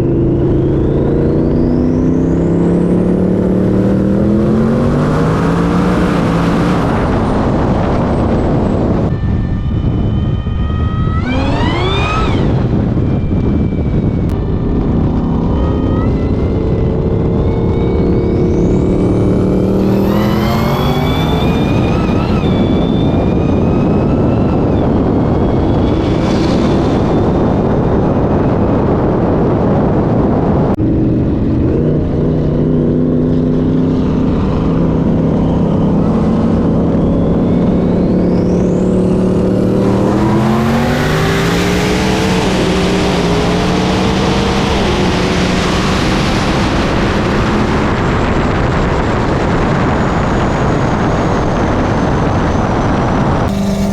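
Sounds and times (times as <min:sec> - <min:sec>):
car engines at full throttle: 0:00.0 - 0:53.9
wind and road noise: 0:00.0 - 0:53.9.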